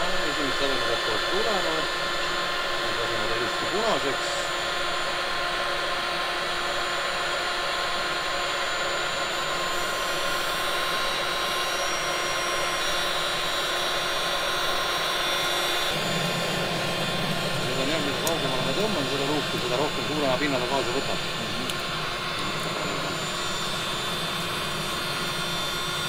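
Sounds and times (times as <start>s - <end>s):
faint motor whine: 0.0s - 26.0s
hot-air fire starter blowing: 0.0s - 26.0s.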